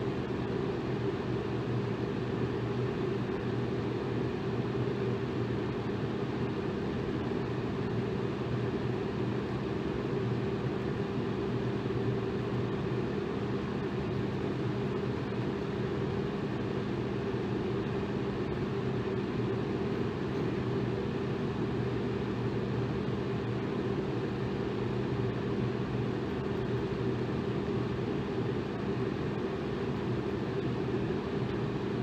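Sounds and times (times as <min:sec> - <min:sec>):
electric fan running: 0:00.0 - 0:32.0.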